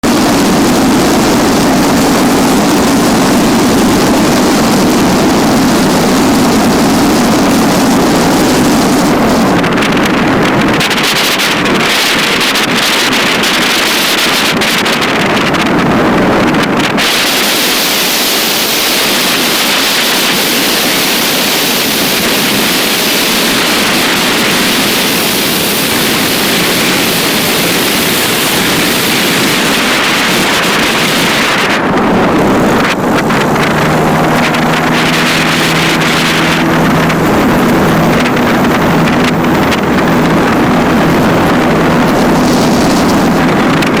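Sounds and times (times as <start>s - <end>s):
aircraft engine and wind rush: 0.0s - 44.0s
multi-pitched engine hum: 0.0s - 44.0s
wind buffeting on microphone: 0.0s - 44.0s.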